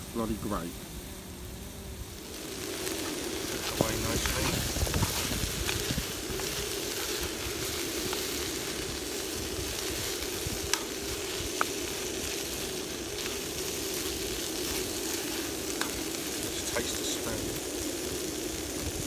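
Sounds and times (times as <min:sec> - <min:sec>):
chicken sizzling in frying pan: 0:00.0 - 0:19.0.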